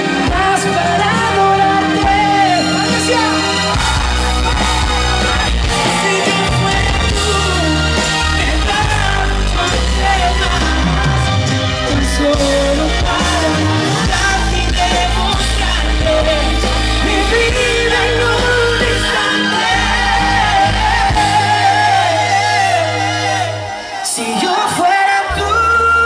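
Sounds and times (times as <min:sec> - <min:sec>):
live rock band with male vocals: 0:00.0 - 0:26.0.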